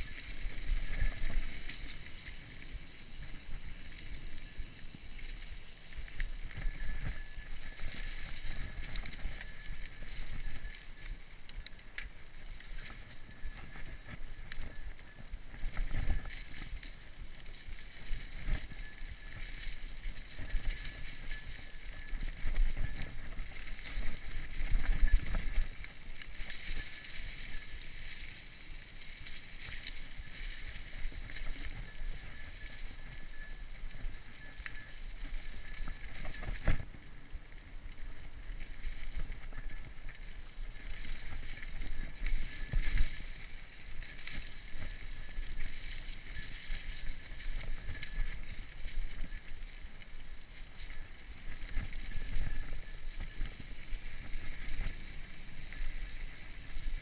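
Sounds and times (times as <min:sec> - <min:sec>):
bike tyres rolling on dirt: 0:00.0 - 0:57.0.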